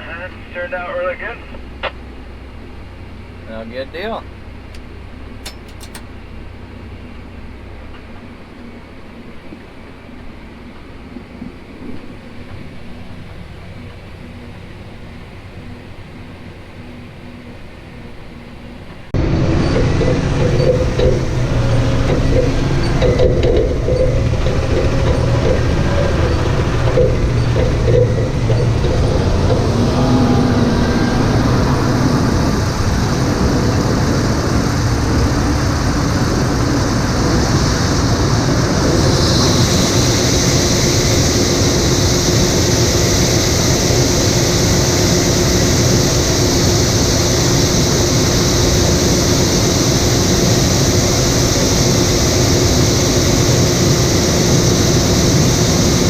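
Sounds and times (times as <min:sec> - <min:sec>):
combine harvester drone: 0:00.0 - 0:56.0
faint hum: 0:00.0 - 0:56.0.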